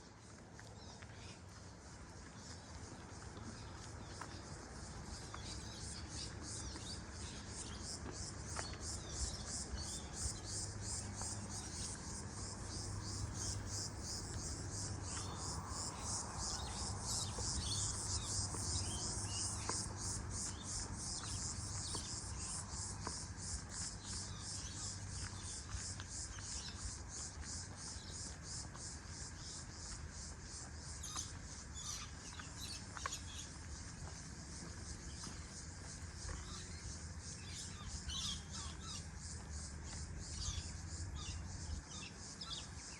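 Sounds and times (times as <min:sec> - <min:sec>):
insects chirping: 0:01.2 - 0:42.9.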